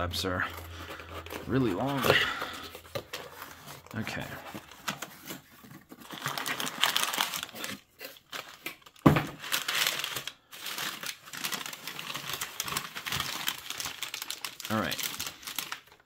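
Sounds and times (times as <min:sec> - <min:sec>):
packing paper crinkling: 0:00.4 - 0:16.0.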